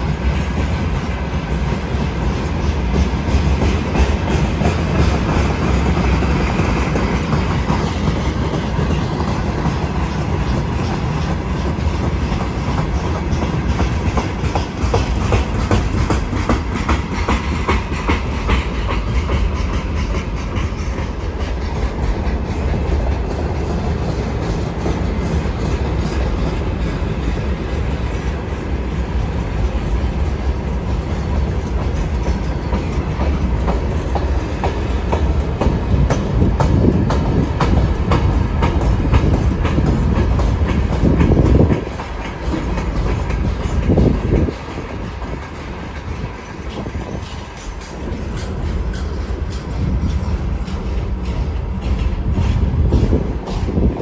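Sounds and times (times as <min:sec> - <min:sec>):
freight train rumbling past: 0:00.0 - 0:54.0
wheels clicking over rail joints: 0:00.0 - 0:54.0.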